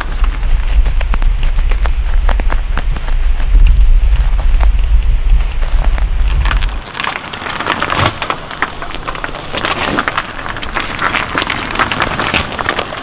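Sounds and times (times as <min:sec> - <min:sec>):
tyre crunching grit: 0:00.0 - 0:13.0.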